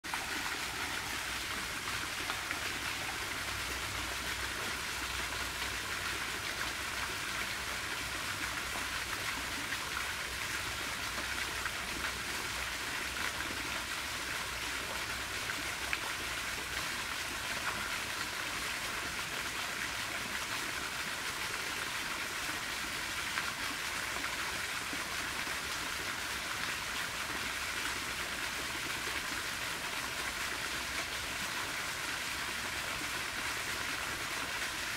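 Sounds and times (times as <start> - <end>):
fountain splashing into pond: 0.0 - 34.9.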